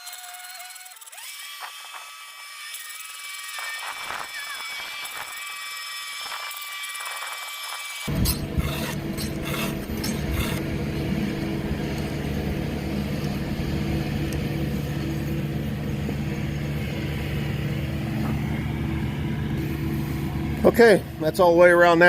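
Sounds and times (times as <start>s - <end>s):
motor running with low hum: 0.0s - 22.0s.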